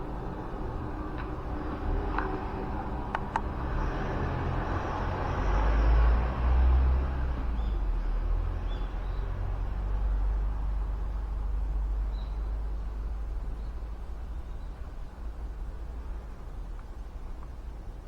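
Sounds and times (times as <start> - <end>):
vehicle passing rumble: 0.0 - 18.0.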